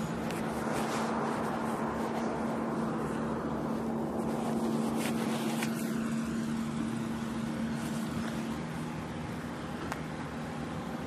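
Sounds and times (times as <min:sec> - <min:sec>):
tram rumbling: 0:00.0 - 0:10.6
constant humming tone: 0:00.0 - 0:11.0.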